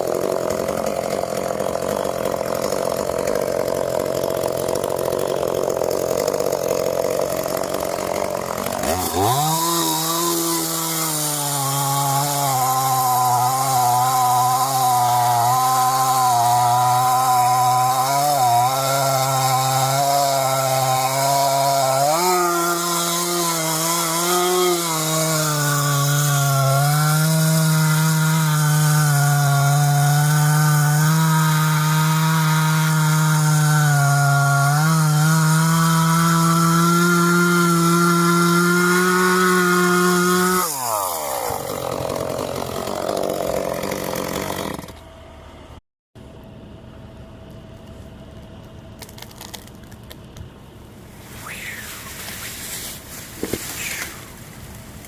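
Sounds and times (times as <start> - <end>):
chainsaw cutting wood: 0.0 - 45.2, 51.3 - 55.0.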